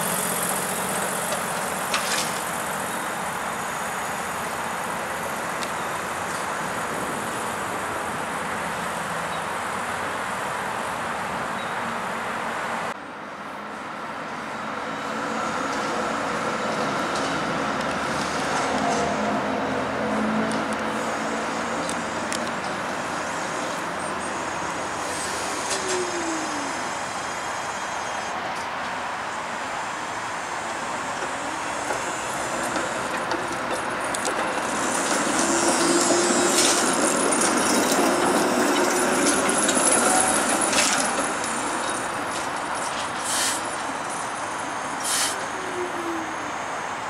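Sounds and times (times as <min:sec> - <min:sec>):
streetcar rumbling on rails: 0:00.0 - 0:47.0.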